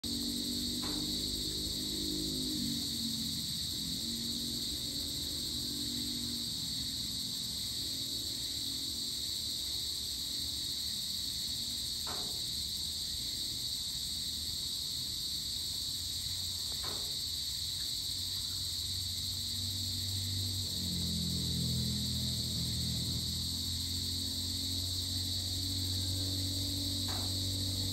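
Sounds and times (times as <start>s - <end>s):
crickets and insects trilling: 0.0s - 27.9s.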